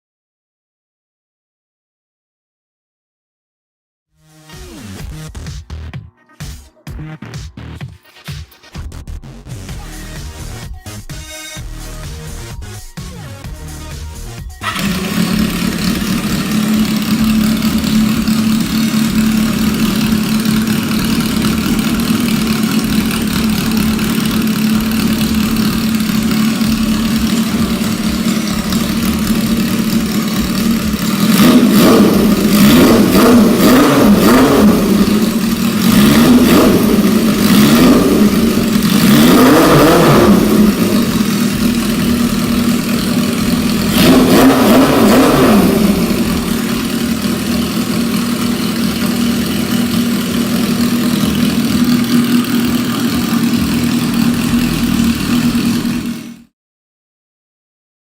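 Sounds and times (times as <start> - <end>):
motorcycle engine idling and revving: 9.6 - 56.6.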